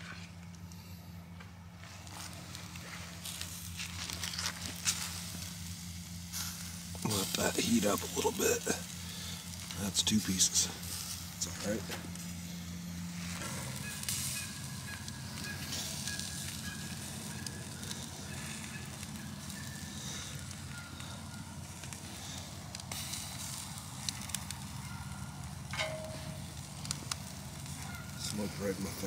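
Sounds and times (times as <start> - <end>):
campfire crackling: 0.0 - 29.0
meat sizzling over coals: 1.7 - 29.0.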